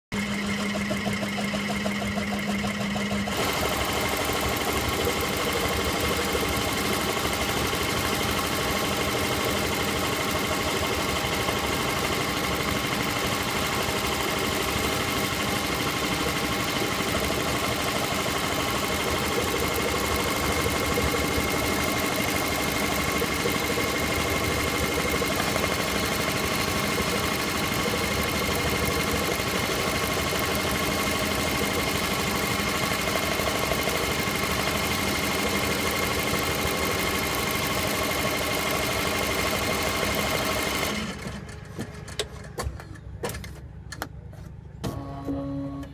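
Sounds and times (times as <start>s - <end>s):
machine hum: 0.1s - 41.2s
embroidery machine stitching: 0.2s - 41.6s.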